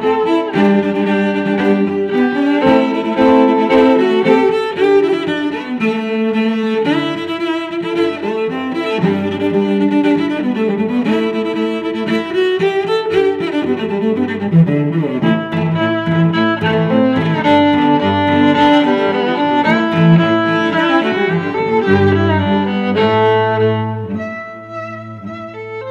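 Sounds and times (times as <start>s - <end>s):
string instrument music: 0.0s - 25.9s.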